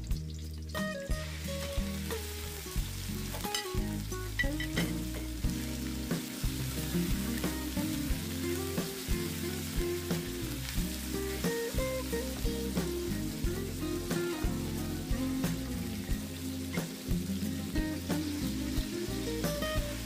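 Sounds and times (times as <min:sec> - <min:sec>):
background music: 0:00.0 - 0:20.0
pork sizzling in a wok: 0:00.0 - 0:20.0.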